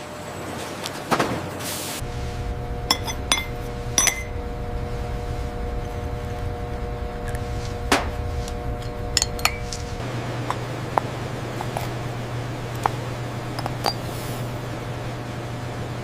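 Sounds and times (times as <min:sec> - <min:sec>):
factory machinery hum: 0:00.0 - 0:16.0
machine whine: 0:02.0 - 0:16.0.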